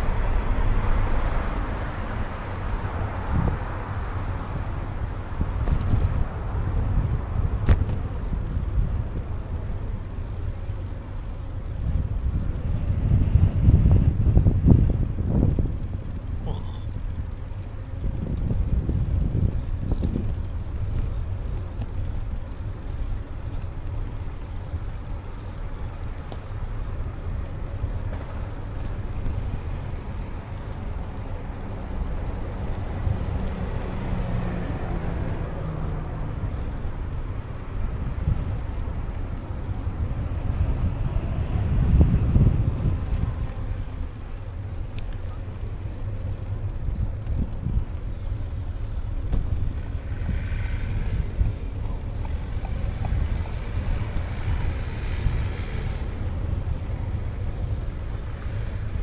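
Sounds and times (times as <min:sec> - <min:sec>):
cars passing close by: 0:00.0 - 0:59.0
wind rumble on microphone: 0:00.0 - 0:59.0.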